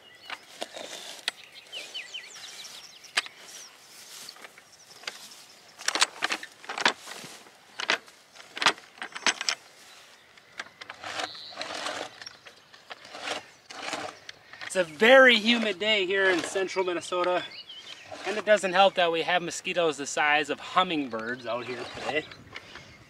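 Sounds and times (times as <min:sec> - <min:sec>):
digger scraping and crunching soil: 0:00.0 - 0:22.9
birds chirping: 0:00.0 - 0:23.0.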